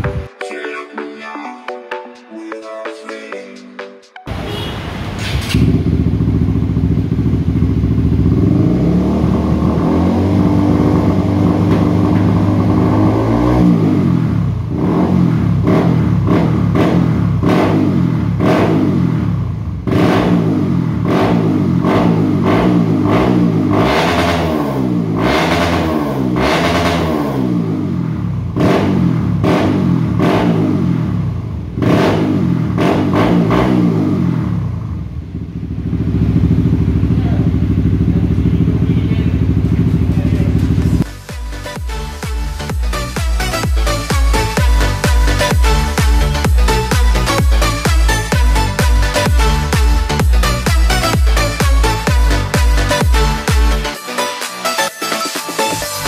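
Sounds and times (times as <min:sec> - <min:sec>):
motorcycle engine idling and revving: 0:04.3 - 0:54.0.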